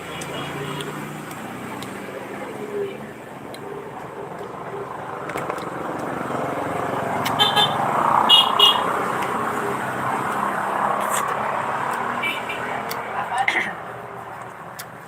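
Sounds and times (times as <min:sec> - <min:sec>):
motor vehicle running: 0:00.0 - 0:15.0.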